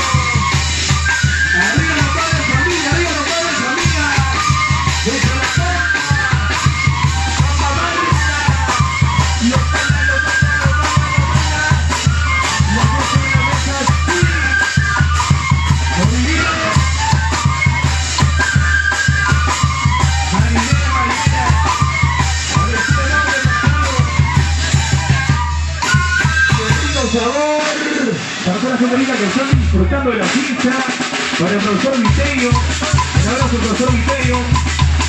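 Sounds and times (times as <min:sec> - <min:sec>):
band playing latin dance music: 0:00.0 - 0:35.0.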